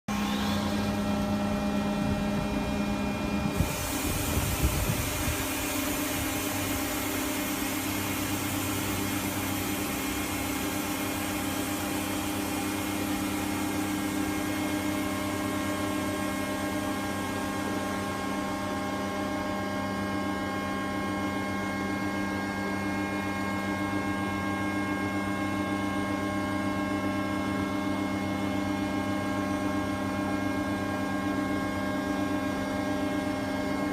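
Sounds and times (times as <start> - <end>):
machine electric hum: 0.1 - 33.9.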